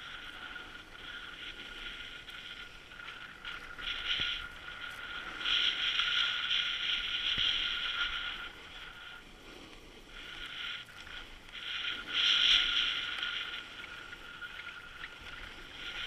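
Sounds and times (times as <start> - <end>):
skis scraping over packed snow: 0.0 - 16.0.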